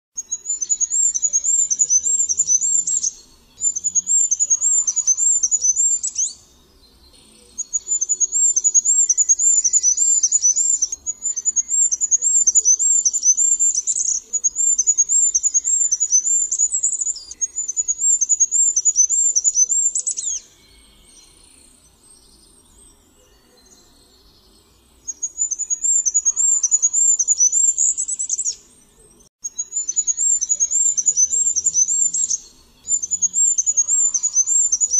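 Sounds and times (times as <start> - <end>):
bird singing high thin songs: 0.1 - 34.9.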